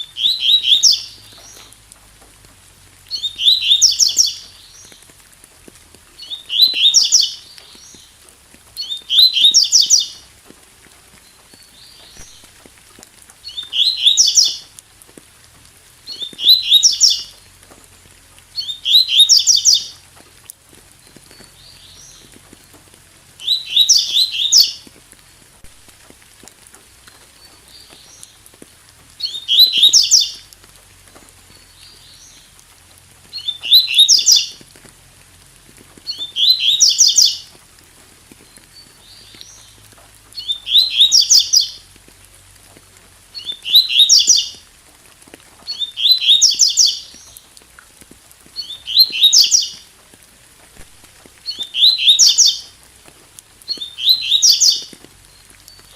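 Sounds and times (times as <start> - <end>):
rain hiss: 0.0 - 55.9.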